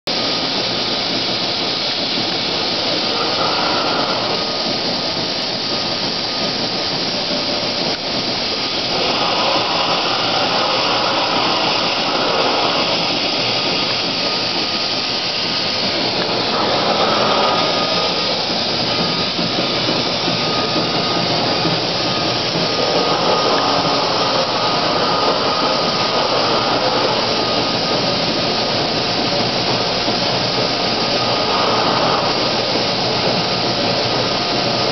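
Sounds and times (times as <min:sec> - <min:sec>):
lathe cutting metal: 0:00.1 - 0:34.9
faint machine whine: 0:01.8 - 0:34.9.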